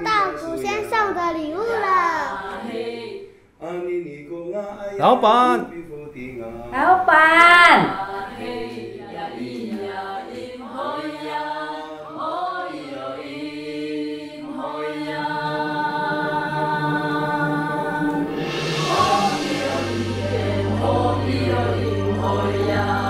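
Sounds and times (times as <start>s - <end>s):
voices singing a slow chant: 1.8s - 5.0s, 5.6s - 23.0s.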